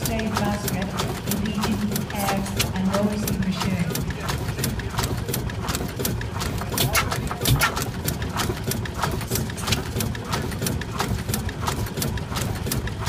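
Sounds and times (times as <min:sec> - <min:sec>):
engine low rumble: 0:00.0 - 0:13.0
stationary engine clicking: 0:00.0 - 0:13.0.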